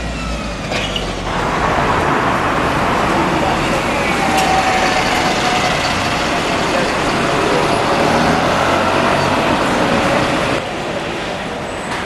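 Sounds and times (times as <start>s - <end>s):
bus passing close by: 0.0s - 12.0s
road traffic: 0.0s - 12.0s.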